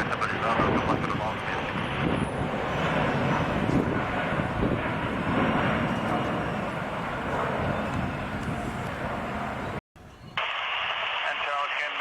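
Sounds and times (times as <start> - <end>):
jet engines rushing: 0.0 - 9.8.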